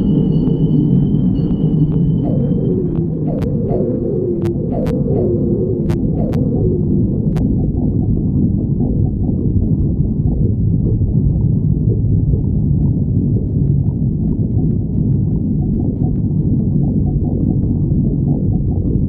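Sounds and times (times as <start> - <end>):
stomach growling: 0.0 - 19.0.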